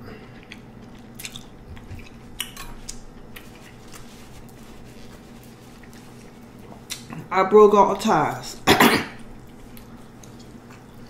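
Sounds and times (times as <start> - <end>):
person chewing food: 0.2 - 7.3, 9.2 - 11.0.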